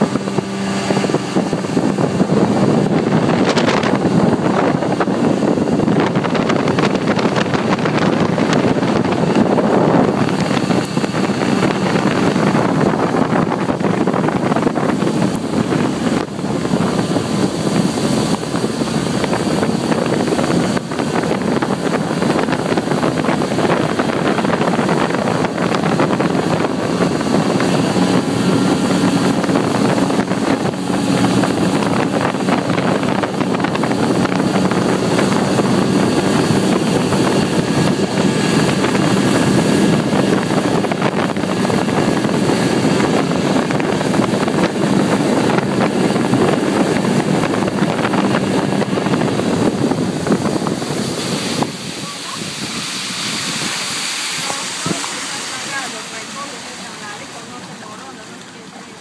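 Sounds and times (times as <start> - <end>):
motorboat engine running: 0.0 - 59.0
wind buffeting microphone: 0.0 - 59.0.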